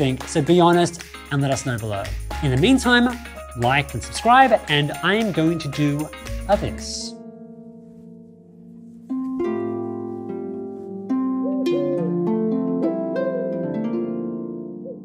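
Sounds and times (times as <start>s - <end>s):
harp music: 0.0s - 15.0s.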